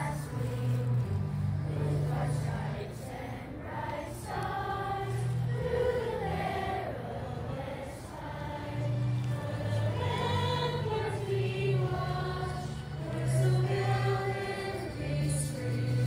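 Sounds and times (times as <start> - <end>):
children singing together: 1.7 - 16.0.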